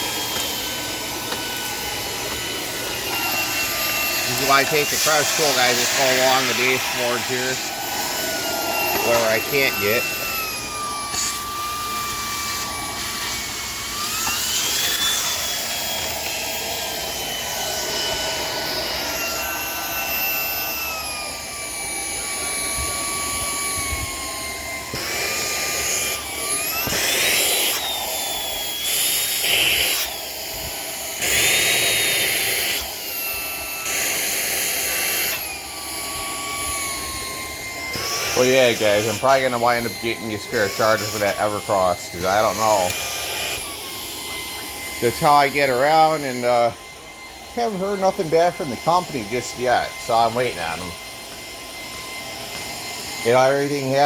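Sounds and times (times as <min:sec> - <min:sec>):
vacuum motor whine: 0:00.0 - 0:54.0.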